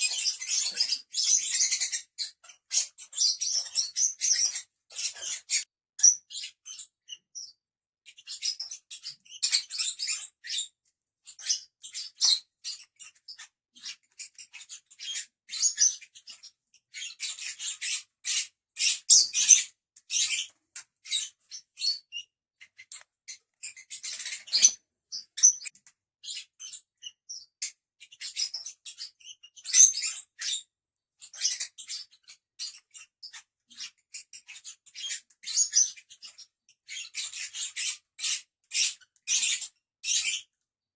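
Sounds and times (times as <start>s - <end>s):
birds chirping and squeaking: 0.0s - 40.6s.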